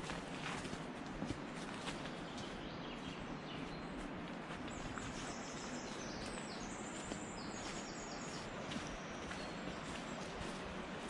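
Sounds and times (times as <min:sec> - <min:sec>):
footsteps on dirt path: 0:00.0 - 0:11.0
birdsong: 0:01.5 - 0:11.0.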